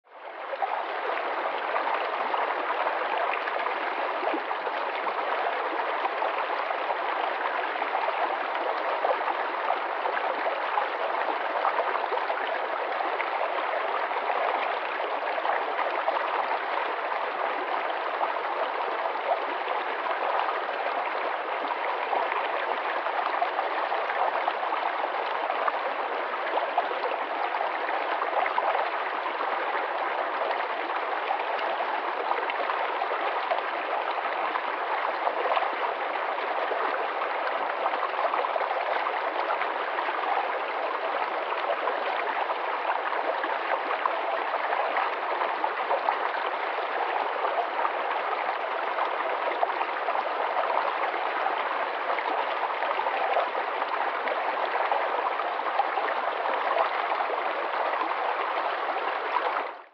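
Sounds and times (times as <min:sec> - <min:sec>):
stream babbling over rocks: 0:00.1 - 0:59.9.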